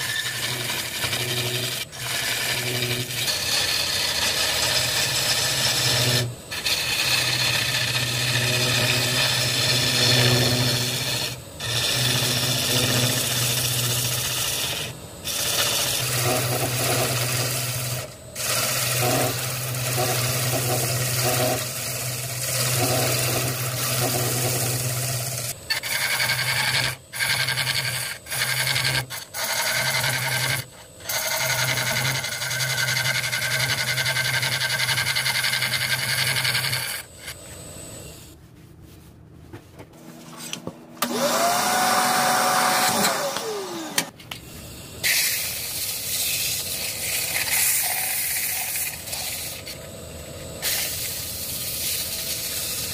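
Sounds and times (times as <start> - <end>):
lathe tool scraping hiss: 0.0 - 38.4, 41.0 - 52.9
lathe low hum: 0.0 - 52.9.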